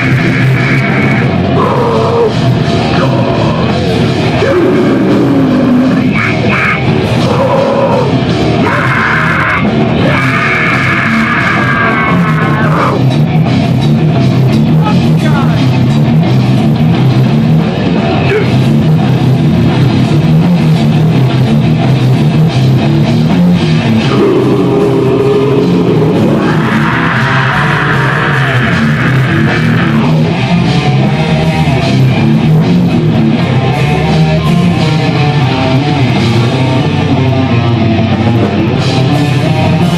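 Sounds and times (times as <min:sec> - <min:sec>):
heavy metal music: 0:00.0 - 0:39.9.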